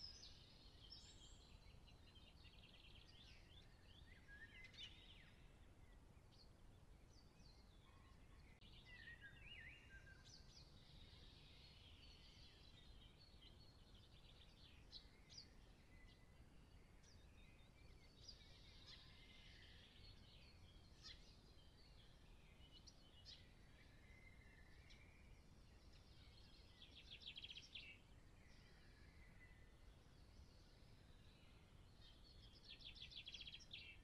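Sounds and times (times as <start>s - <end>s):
songbirds singing and chirping: 0.0s - 34.0s.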